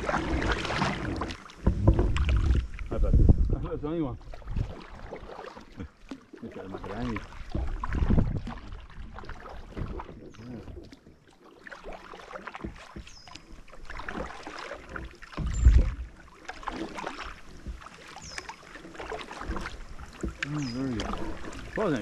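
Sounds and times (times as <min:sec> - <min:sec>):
water splashing against hull: 0:00.0 - 0:22.0.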